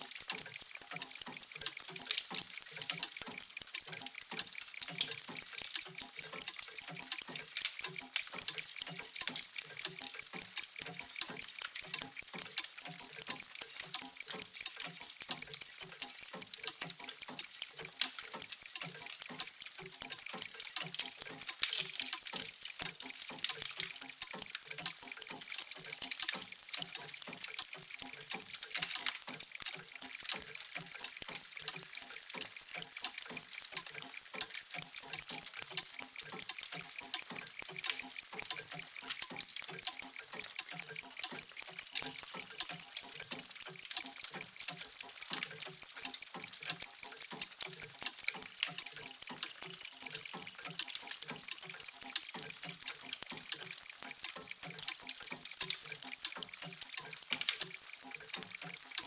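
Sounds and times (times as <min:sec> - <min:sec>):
mechanical clocks ticking: 0:00.0 - 0:59.0.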